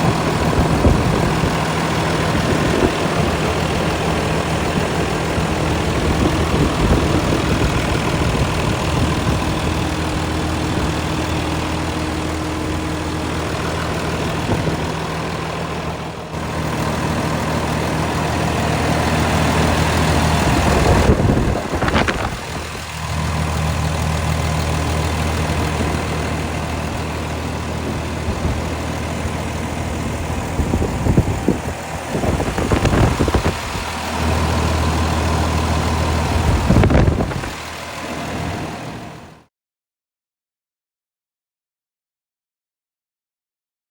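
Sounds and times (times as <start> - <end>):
diesel truck idling: 0.0 - 39.5.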